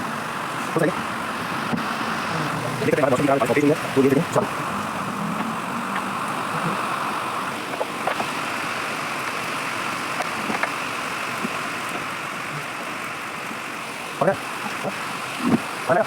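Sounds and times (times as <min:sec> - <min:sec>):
motor running: 0:00.0 - 0:16.0.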